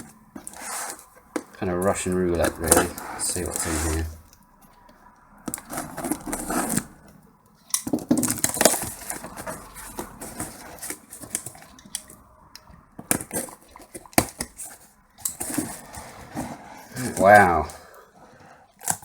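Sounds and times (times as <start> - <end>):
cardboard and paper crackling: 0.0 - 4.4, 5.4 - 7.1, 7.8 - 12.2, 13.0 - 19.0.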